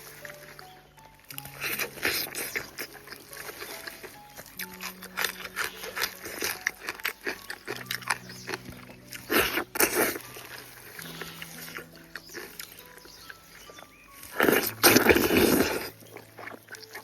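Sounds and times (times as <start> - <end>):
person chewing wetly: 0.0 - 17.0.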